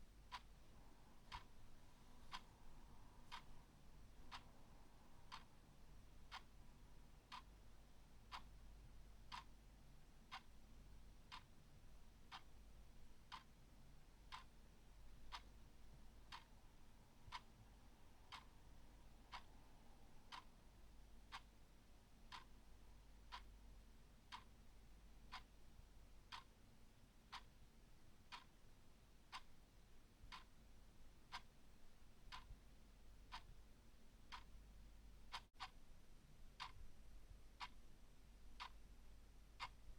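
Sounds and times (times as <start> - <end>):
clock ticking: 0.3 - 8.7, 9.3 - 9.6, 10.2 - 17.6, 18.3 - 24.6, 25.2 - 26.6, 27.3 - 27.7, 28.3 - 35.8, 38.6 - 38.8, 39.6 - 39.8.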